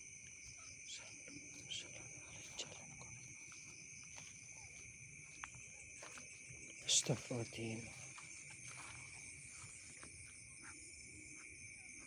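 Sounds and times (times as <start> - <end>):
crickets trilling: 0.0 - 12.0
sharp insect chirps: 0.0 - 12.0.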